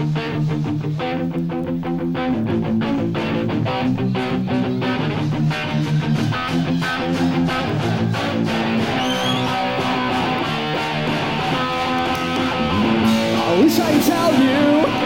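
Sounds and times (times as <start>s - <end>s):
electric guitar strumming chords: 0.0s - 15.0s
punk rock band playing: 0.0s - 15.0s.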